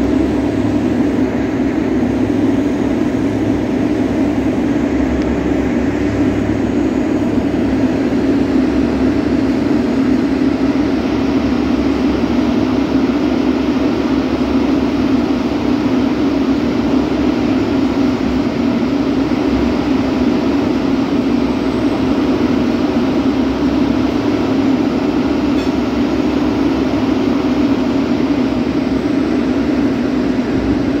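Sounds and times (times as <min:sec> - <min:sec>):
freight train rumbling on rails: 0:00.0 - 0:31.0.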